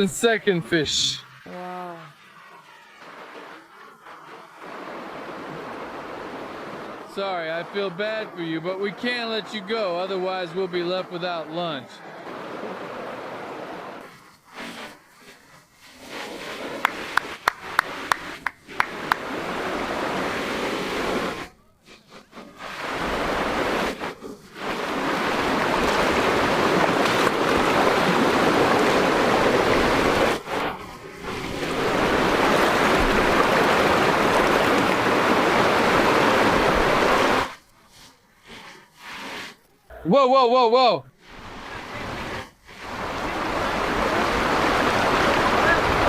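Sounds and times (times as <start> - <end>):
river water rushing: 0.0 - 21.6, 22.5 - 37.7, 40.2 - 46.0.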